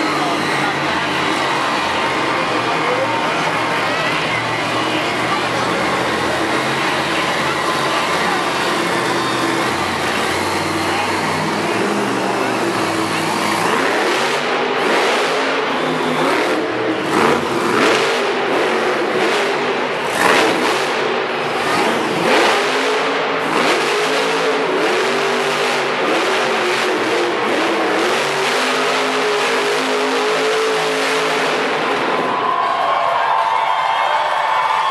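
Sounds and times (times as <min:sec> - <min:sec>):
monster truck engine revving: 0:00.0 - 0:34.9.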